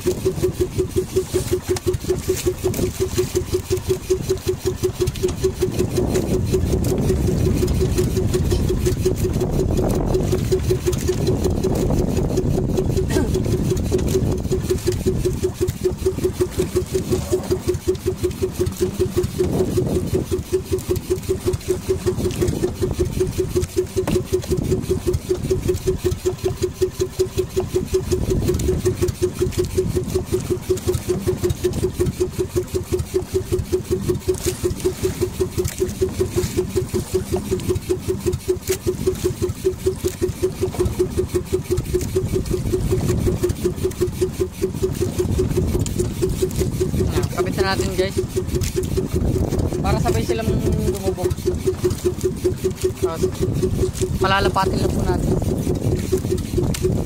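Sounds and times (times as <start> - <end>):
boat engine running: 0.0 - 57.0
water noise: 0.0 - 57.0
wind: 0.0 - 57.0.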